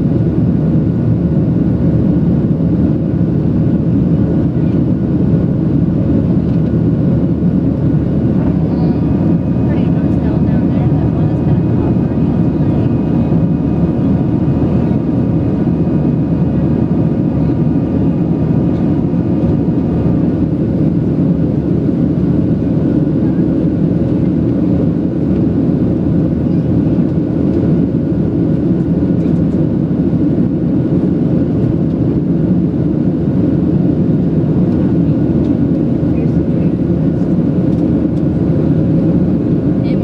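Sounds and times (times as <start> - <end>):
aircraft cabin rumble: 0.0 - 40.0
high engine whine: 0.0 - 40.0.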